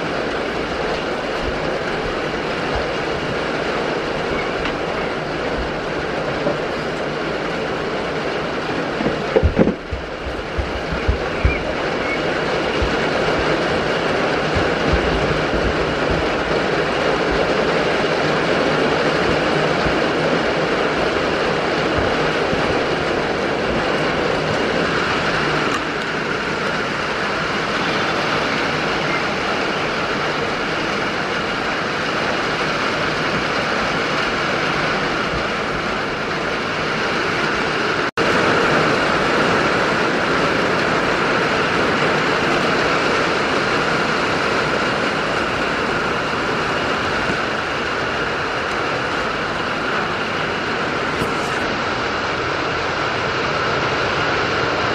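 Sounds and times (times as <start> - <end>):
rain on a metal roof: 0.0 - 54.9.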